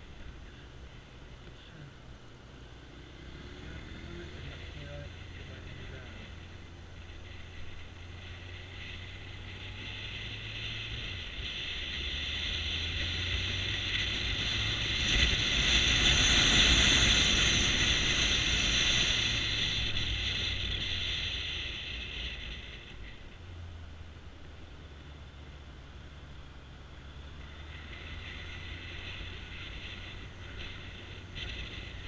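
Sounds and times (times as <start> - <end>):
motorcycle engine hum: 0.0 - 32.0
wind and road noise: 0.0 - 32.0.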